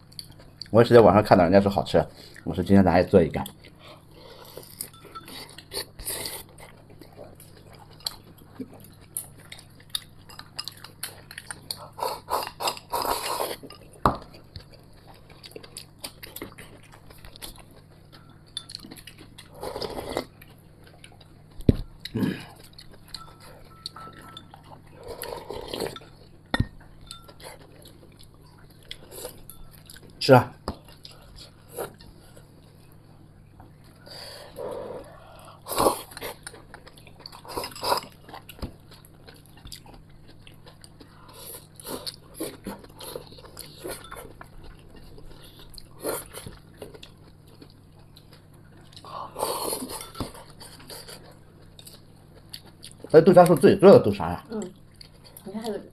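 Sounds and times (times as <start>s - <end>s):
person chewing: 0.0s - 0.7s, 3.4s - 33.0s, 33.7s - 53.6s, 54.6s - 55.5s.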